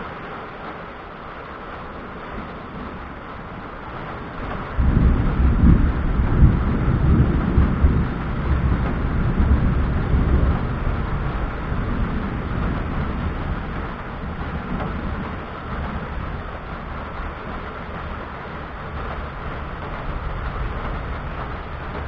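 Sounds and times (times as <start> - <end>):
rolling thunder: 2.1 - 22.0.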